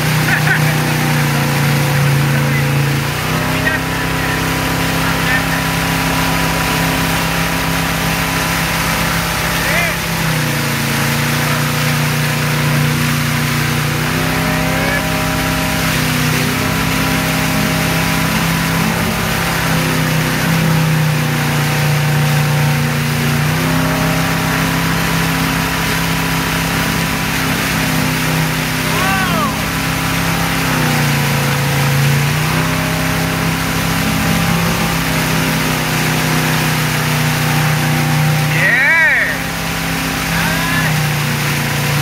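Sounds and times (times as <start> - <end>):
boat engine running: 0.0 - 42.0
wake water rushing: 0.0 - 42.0.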